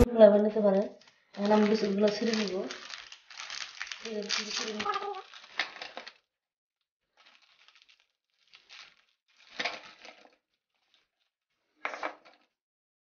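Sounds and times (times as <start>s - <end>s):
plastic wrapper crinkling: 0.7s - 6.3s, 7.1s - 12.6s.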